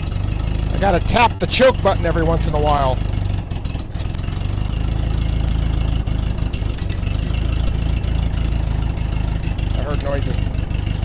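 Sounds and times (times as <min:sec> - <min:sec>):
trencher engine running: 0:00.0 - 0:11.0.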